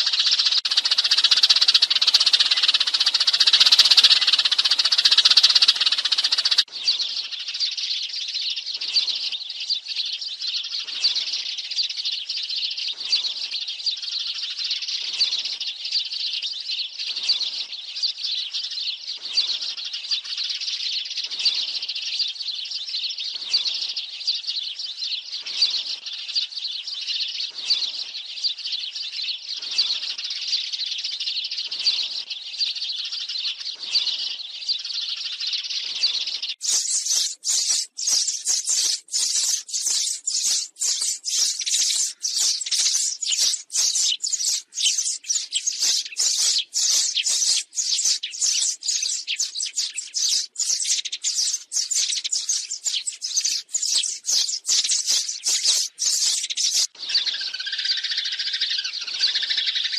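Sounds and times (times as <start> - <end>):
sparrow flock chattering: 0.0 - 59.9.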